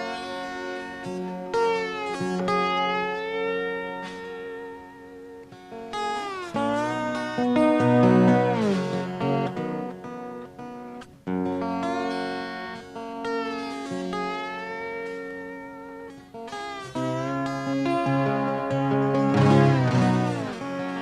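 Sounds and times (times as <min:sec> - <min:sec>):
slide acoustic guitar playing: 0:00.0 - 0:21.0.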